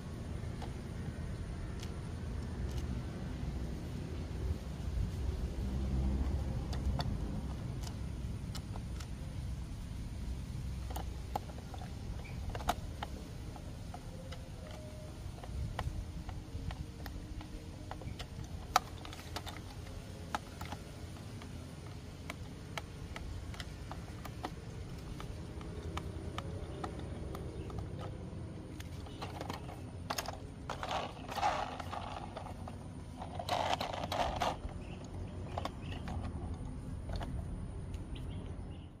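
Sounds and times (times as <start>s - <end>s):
handling noise: 0.0s - 38.4s.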